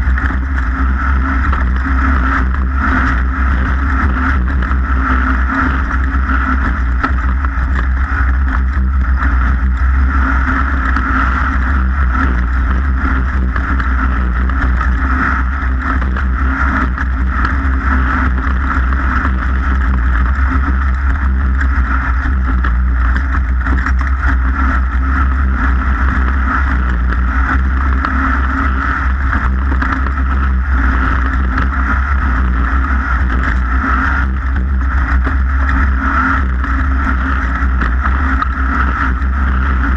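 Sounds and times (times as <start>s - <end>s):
racing engine running: 0.0s - 39.9s.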